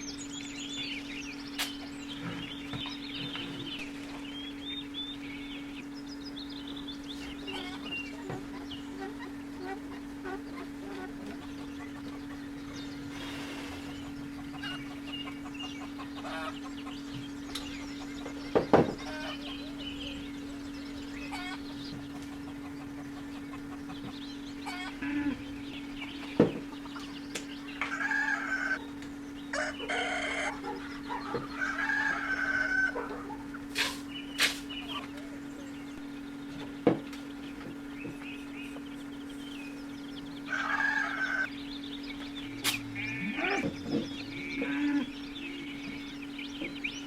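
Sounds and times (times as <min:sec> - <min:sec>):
steady low hum: 0:00.0 - 0:47.0
fowl-like calls: 0:06.6 - 0:36.9, 0:37.5 - 0:47.0.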